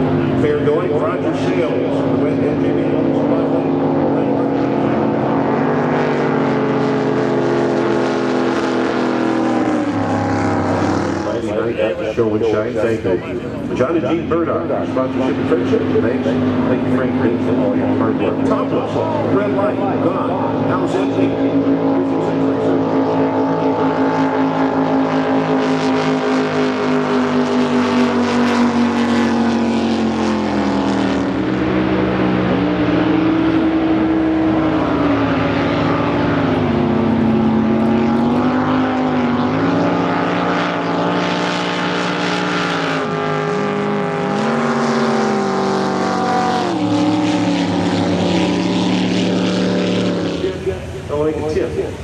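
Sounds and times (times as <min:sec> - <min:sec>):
boat engine revving: 0:00.0 - 0:52.0.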